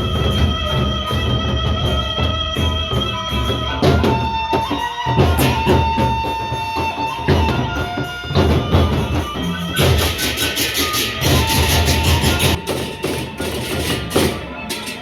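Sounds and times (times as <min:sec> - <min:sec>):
large drums beating: 0:00.0 - 0:15.0.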